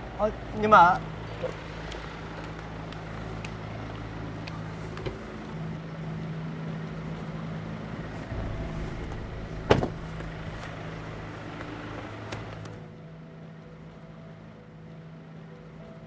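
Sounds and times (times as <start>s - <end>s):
motorbike engine idling: 0.0s - 16.0s.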